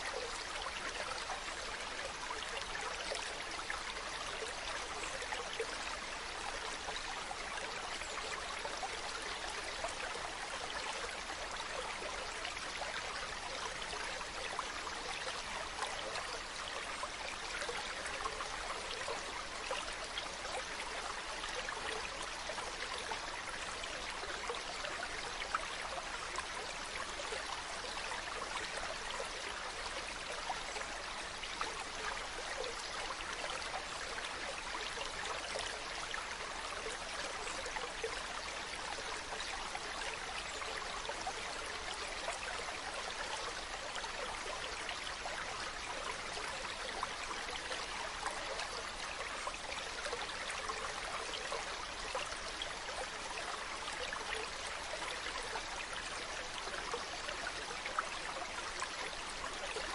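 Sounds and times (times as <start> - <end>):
stream babbling with small splashes: 0.0 - 59.9.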